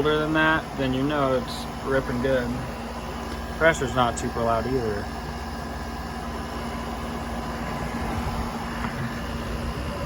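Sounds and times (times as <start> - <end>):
air conditioner compressor hum: 0.0 - 10.0
fan blowing air: 0.0 - 10.0.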